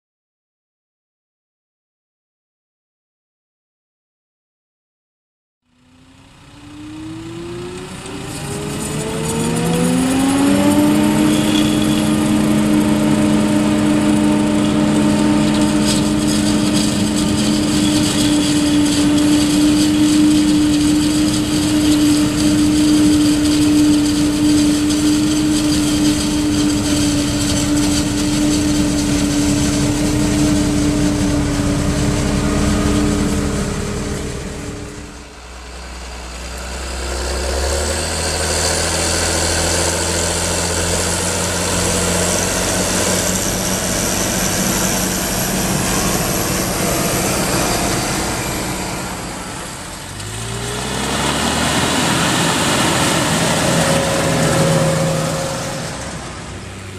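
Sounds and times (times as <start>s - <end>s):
forage harvester whine and drone: 5.6s - 56.9s
tractor engine: 5.7s - 56.9s.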